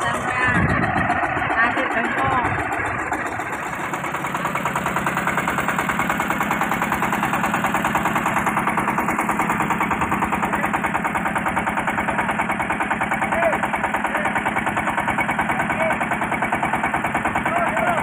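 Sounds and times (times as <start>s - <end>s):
diesel engine pulsing: 0.0s - 18.0s.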